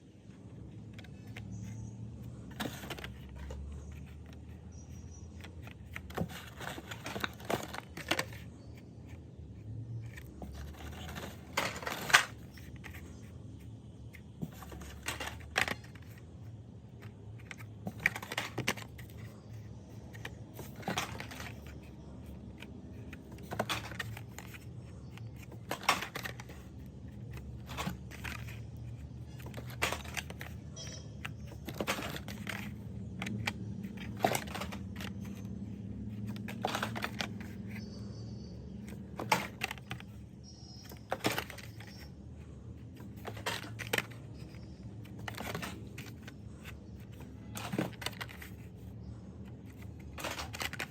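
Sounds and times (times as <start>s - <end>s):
plastic and cardboard packaging rustling: 0.4s - 50.9s.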